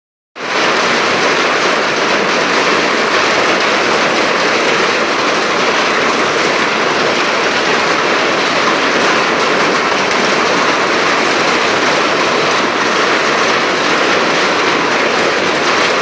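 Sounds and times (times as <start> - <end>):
floodwater rushing: 0.4 - 16.0.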